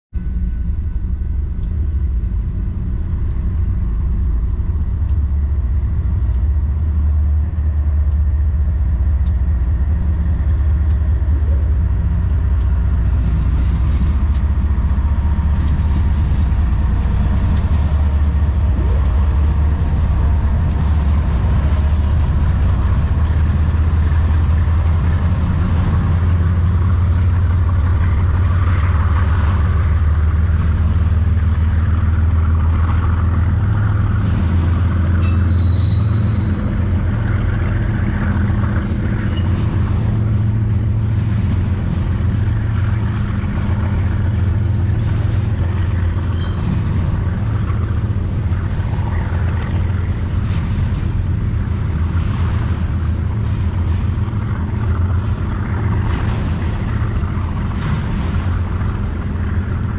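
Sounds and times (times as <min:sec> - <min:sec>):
locomotive engines rumbling: 0:00.2 - 0:59.9.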